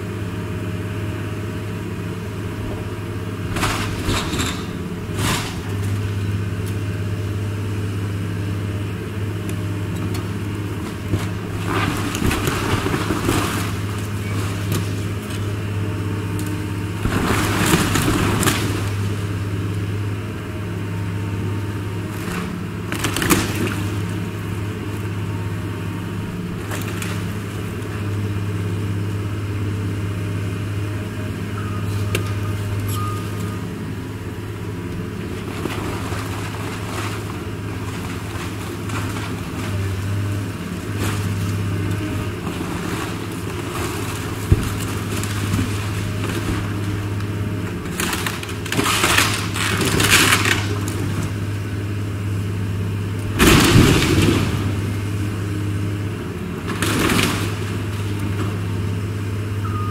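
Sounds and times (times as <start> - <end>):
excavator diesel engine running: 0.0 - 59.9
wood cracking and crashing: 2.4 - 6.8, 9.5 - 20.2, 21.0 - 29.6, 32.1 - 52.4, 53.0 - 59.0.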